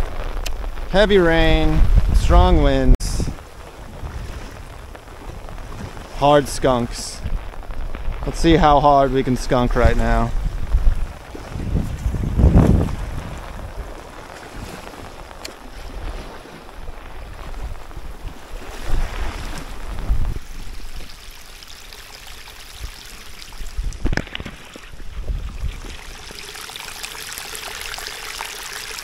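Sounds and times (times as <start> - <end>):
wind rumbling on microphone: 0.0 - 27.0
heavy rain on water: 0.0 - 29.0.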